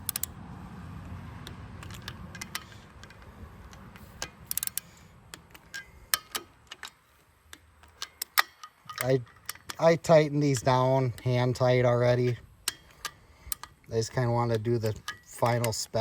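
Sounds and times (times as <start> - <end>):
torque wrench ratchet clicks: 0.0 - 0.3, 1.4 - 11.6, 12.2 - 16.0
sharp metallic clicks: 0.0 - 0.4, 1.4 - 16.0.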